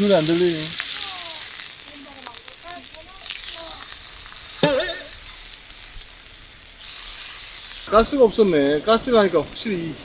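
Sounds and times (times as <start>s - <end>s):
meat sizzling on a griddle: 0.0s - 10.0s.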